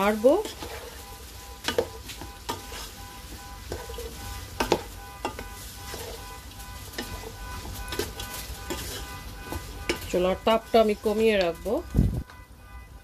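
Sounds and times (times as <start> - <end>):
spatula scraping and knocking pot: 0.0 - 11.6
vegetables sizzling in a pot: 0.0 - 12.3.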